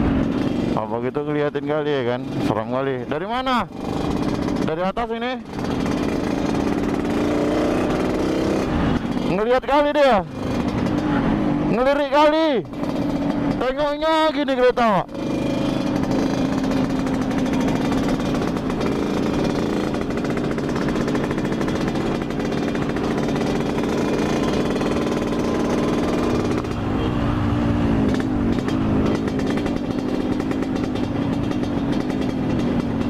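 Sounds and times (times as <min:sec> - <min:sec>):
two-stroke motorcycle engine revving: 0:00.0 - 0:33.0.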